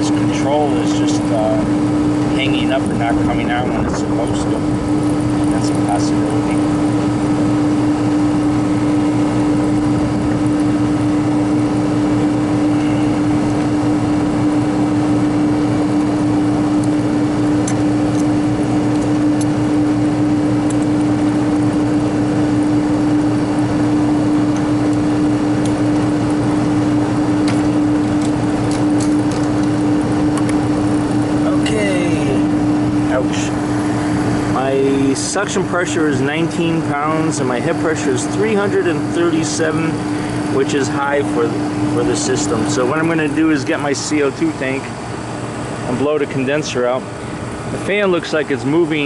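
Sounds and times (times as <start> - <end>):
refrigeration compressor humming: 0.0 - 49.0.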